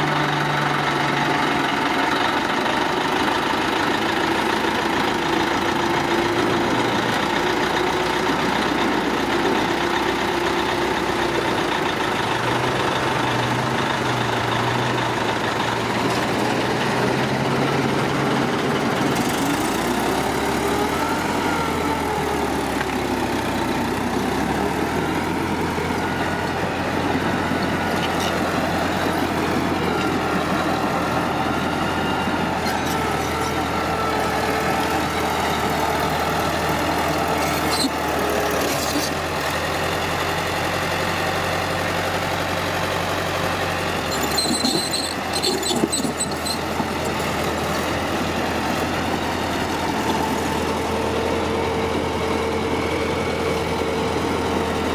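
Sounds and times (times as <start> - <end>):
heavy diesel engines running: 0.0 - 54.9.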